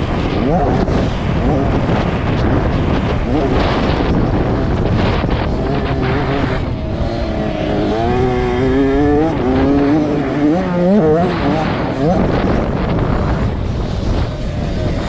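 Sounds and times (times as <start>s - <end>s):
two-stroke motorcycle engine revving: 0.0s - 15.0s
wind buffeting microphone: 0.0s - 15.0s.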